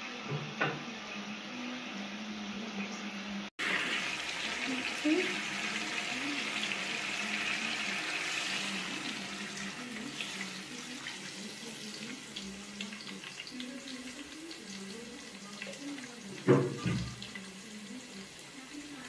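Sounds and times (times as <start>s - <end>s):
water pouring into metal pot: 3.6s - 18.9s.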